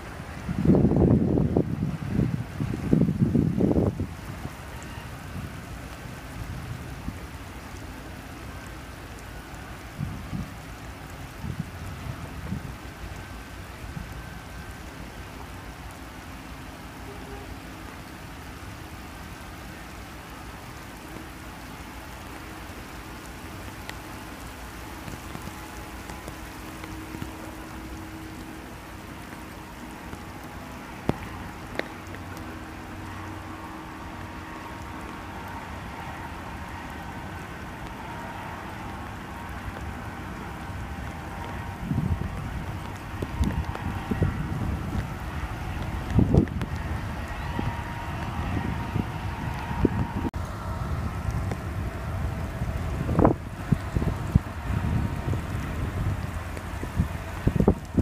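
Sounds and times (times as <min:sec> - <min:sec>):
wind noise on microphone: 0:00.0 - 0:08.0, 0:08.9 - 0:16.3, 0:23.0 - 0:58.0
faint low truck hum: 0:00.0 - 0:58.0
rain hissing: 0:00.0 - 0:58.0.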